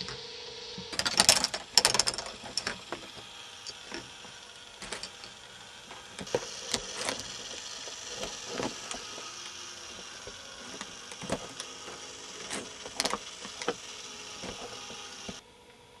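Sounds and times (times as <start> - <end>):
motor and gears whirring: 0.0 - 16.0.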